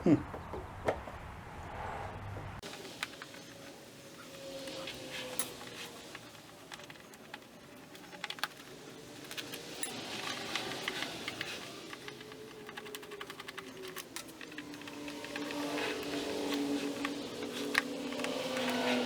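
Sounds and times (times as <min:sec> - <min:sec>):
screwdriver clicking: 0:02.6 - 0:19.0.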